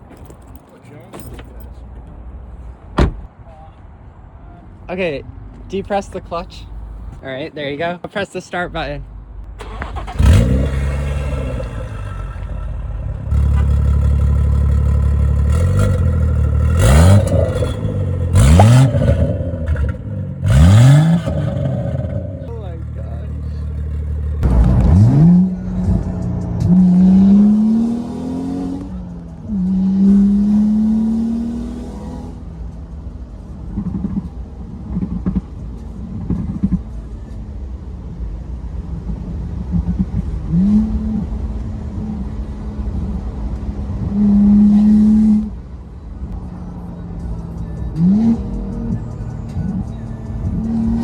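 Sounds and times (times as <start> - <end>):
car engine idling and revving: 7.8 - 51.0.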